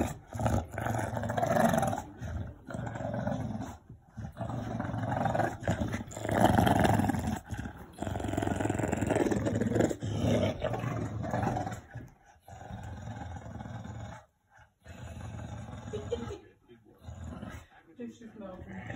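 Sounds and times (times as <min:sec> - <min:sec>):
dogs growling: 0:00.0 - 0:18.9.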